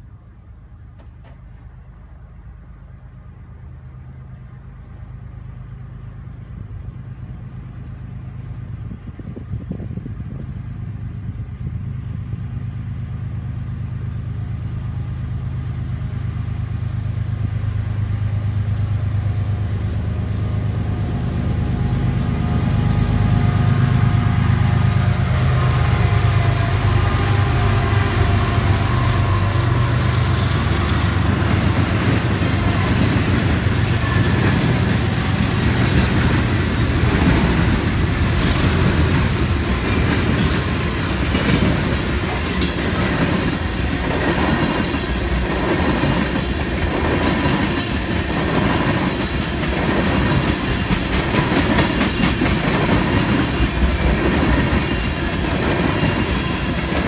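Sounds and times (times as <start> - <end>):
locomotive engine drone: 0.0 - 57.0
wheel and rail noise: 0.0 - 57.0.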